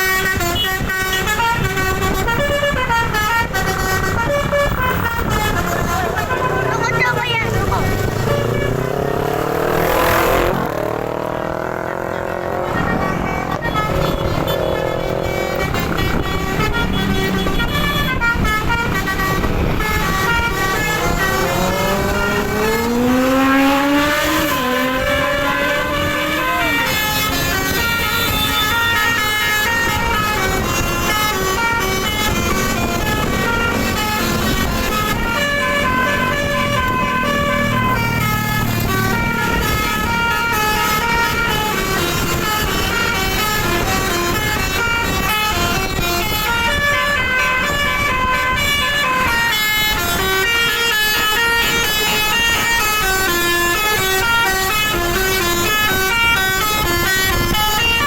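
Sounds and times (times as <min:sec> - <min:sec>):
multi-tone bus horn melody: 0:00.0 - 0:58.0.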